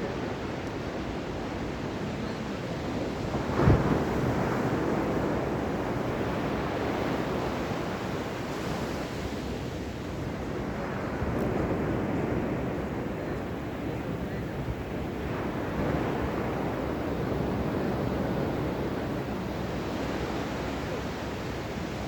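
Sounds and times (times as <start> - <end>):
ocean surf washing: 1.5 - 22.0.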